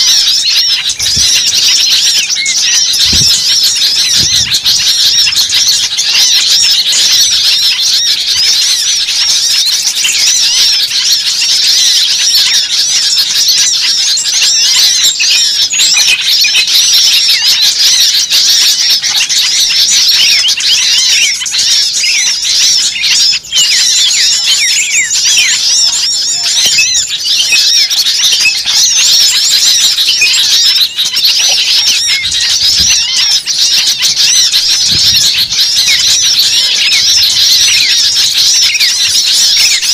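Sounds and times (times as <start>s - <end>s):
small birds chirping and squeaking: 0.0s - 39.9s.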